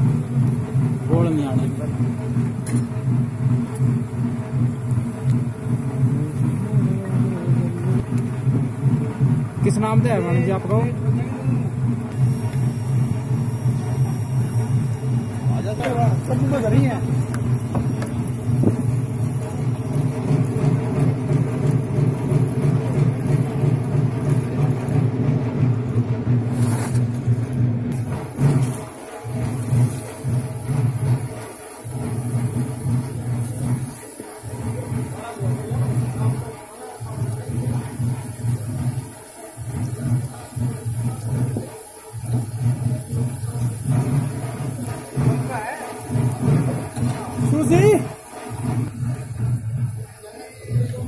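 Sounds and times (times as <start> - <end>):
oil sizzling: 0.0 - 51.0
pulsing mechanical rumble: 0.0 - 51.0.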